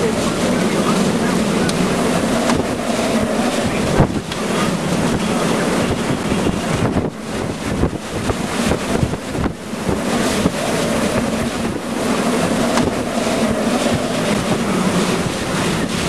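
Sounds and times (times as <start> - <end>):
strong wind buffeting microphone: 0.0 - 16.0
vehicle low rumble: 0.0 - 16.0.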